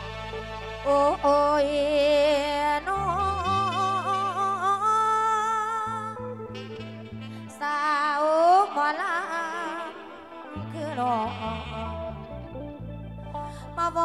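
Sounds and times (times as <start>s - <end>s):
held low chord: 0.0s - 14.0s.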